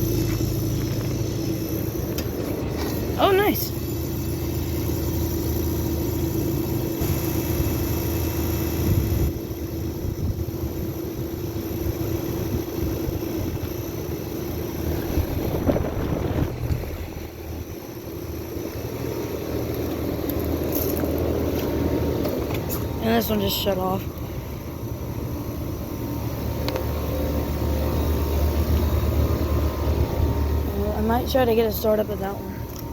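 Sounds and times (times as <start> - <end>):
air conditioner units humming: 0.0 - 32.9.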